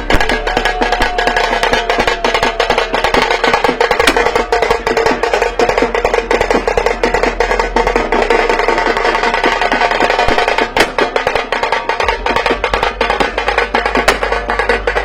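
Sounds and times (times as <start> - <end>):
fast dense drumming: 0.0 - 15.0
steady held tone: 0.0 - 15.0.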